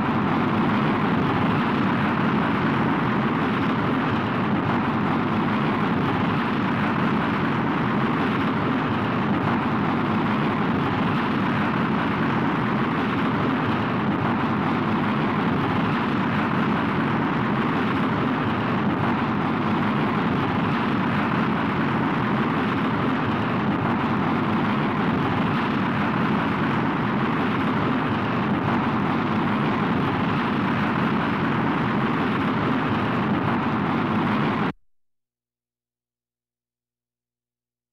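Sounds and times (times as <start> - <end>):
rocket engine exhaust roaring: 0.0 - 34.8.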